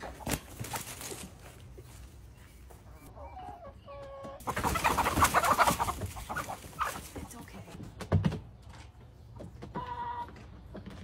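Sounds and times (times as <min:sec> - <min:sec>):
hens clucking and squawking: 0:00.0 - 0:07.7, 0:09.2 - 0:11.0.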